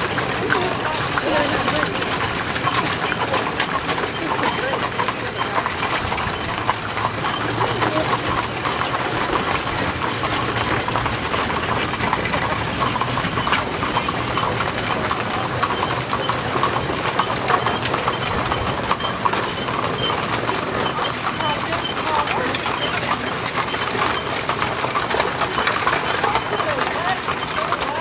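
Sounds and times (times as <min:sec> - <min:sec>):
horse hooves clip-clopping: 0:00.0 - 0:28.0.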